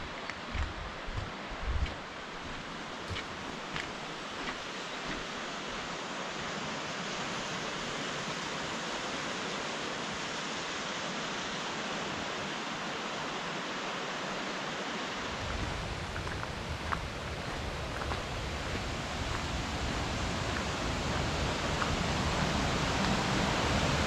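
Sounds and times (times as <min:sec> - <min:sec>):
river rapids rushing: 0:00.0 - 0:24.0.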